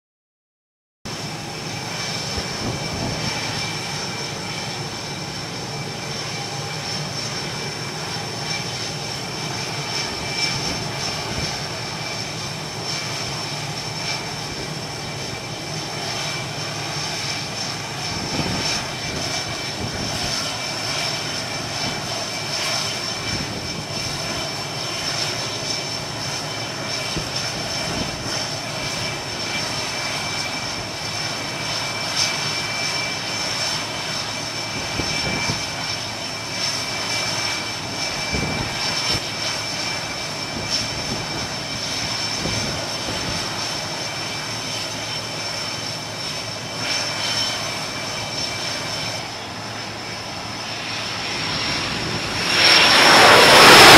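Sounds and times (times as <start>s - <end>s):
jet engines whining: 1.1s - 53.9s.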